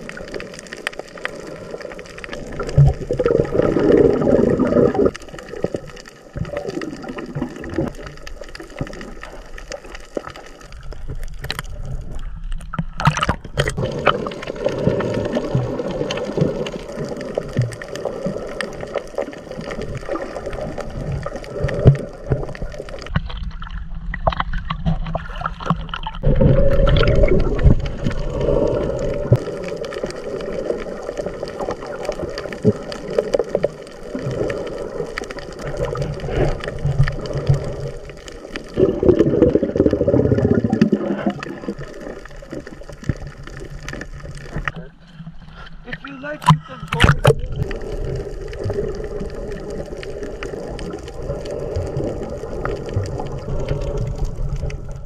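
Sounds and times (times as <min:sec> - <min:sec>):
water splashing and gurgling: 0:00.0 - 0:55.0.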